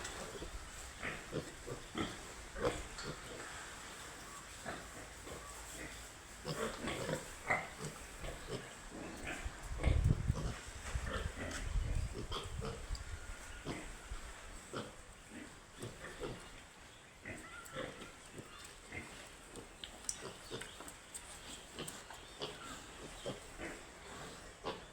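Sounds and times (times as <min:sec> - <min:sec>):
piglets grunting: 0:00.0 - 0:03.6, 0:04.6 - 0:16.6, 0:17.2 - 0:20.6, 0:21.6 - 0:24.9.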